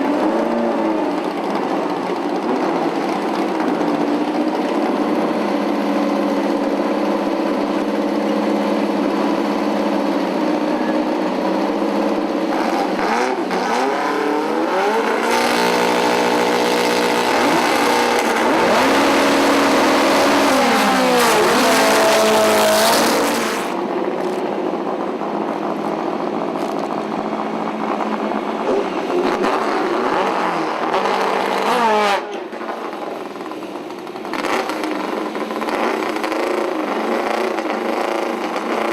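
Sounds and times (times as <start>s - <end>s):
car engines idling and revving: 0.0s - 38.9s
engine hard acceleration: 0.0s - 38.9s.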